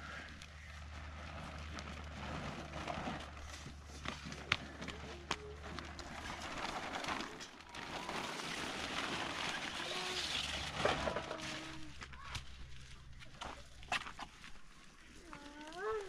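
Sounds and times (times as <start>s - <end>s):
plastic sheet rustling: 0.1s - 16.0s.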